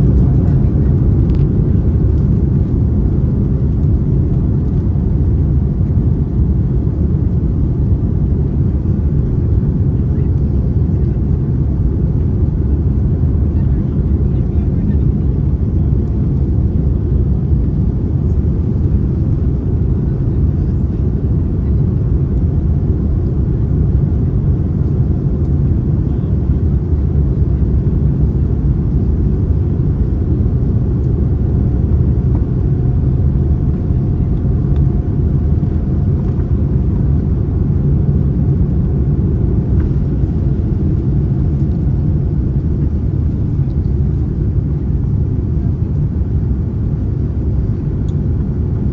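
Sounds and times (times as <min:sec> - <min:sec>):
airplane engines and airflow rumble: 0:00.0 - 0:48.9.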